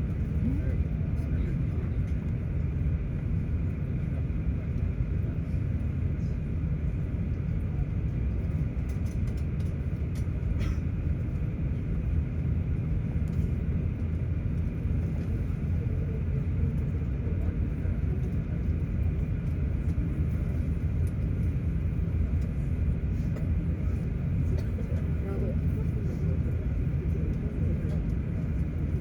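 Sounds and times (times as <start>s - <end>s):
aircraft cabin engine rumble: 0.0s - 29.0s.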